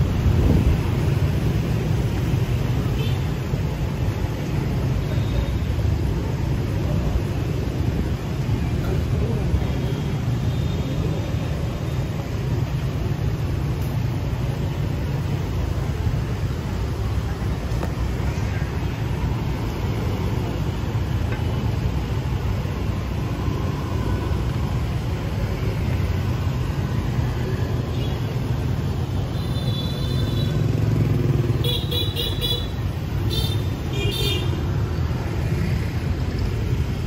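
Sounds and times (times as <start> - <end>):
street traffic rumble: 0.0 - 37.0.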